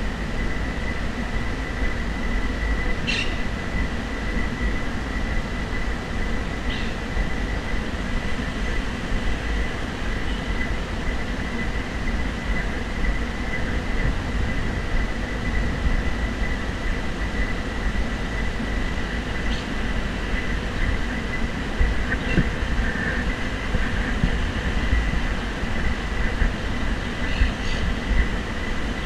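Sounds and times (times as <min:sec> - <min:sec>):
faint high whine: 0:00.0 - 0:29.0
wind buffeting microphone: 0:00.0 - 0:29.0.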